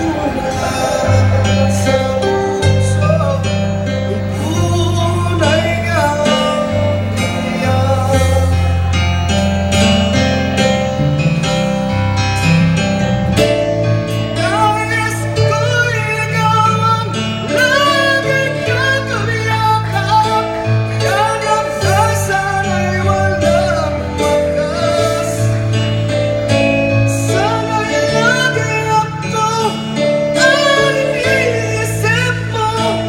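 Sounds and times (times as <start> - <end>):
person singing: 0.0 - 9.2, 14.1 - 25.8, 27.1 - 33.0
acoustic guitar: 0.0 - 33.0
bass line: 0.0 - 33.0.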